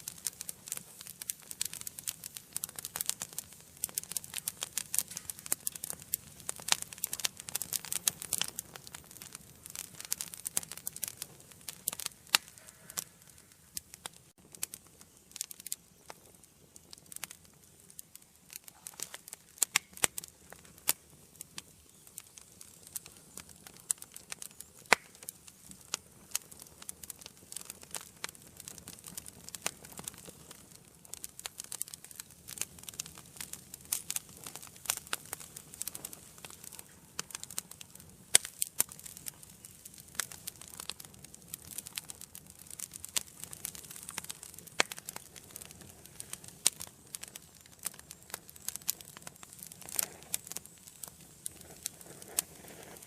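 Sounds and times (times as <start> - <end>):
soft fire hiss: 0.0 - 53.0
wood fire crackling and popping: 0.0 - 53.0.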